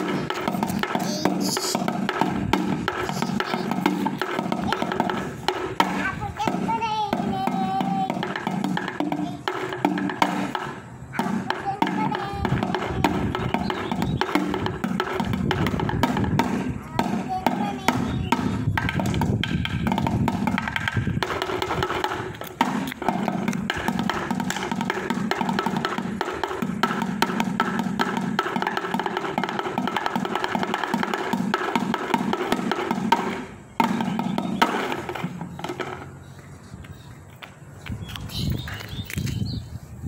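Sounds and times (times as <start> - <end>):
drumming on plastic bucket: 0.0 - 36.1.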